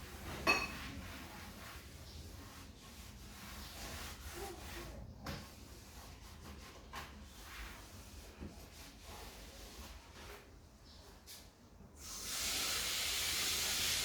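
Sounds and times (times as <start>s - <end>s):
cloth wiping a surface: 0.0s - 11.5s.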